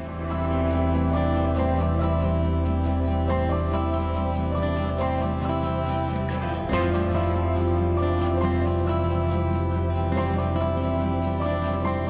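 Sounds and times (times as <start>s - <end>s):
low drone: 0.0s - 12.0s
plucked guitar-like notes: 0.0s - 12.0s.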